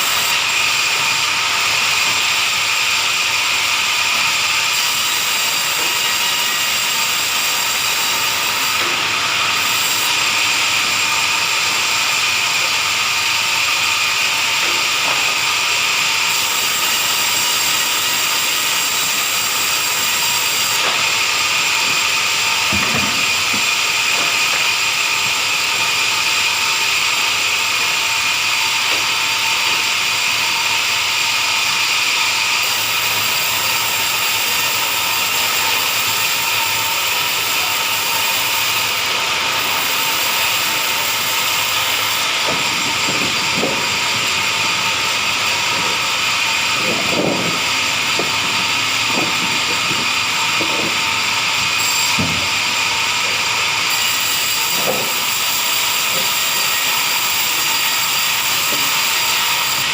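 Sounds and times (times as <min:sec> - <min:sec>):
wood-sawing machine whining: 0:00.0 - 0:59.9.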